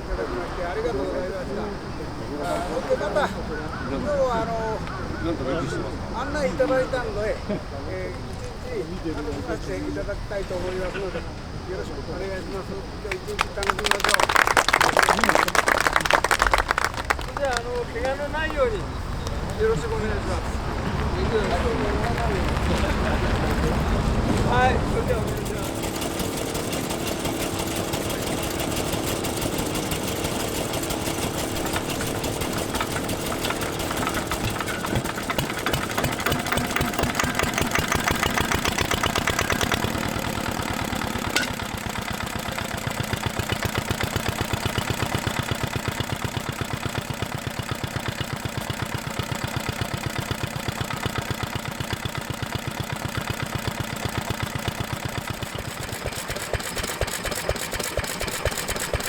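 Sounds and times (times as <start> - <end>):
stationary engines knocking: 0.0 - 59.0.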